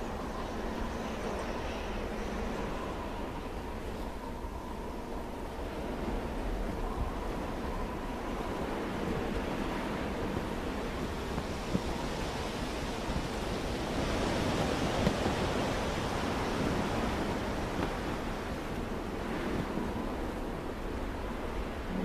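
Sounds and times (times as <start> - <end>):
blizzard wind blowing: 0.0 - 22.0.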